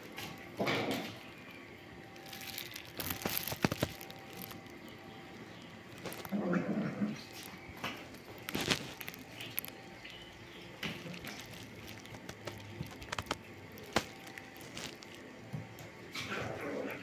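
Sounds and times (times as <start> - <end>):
cats eating from plastic bowl: 2.0 - 17.0.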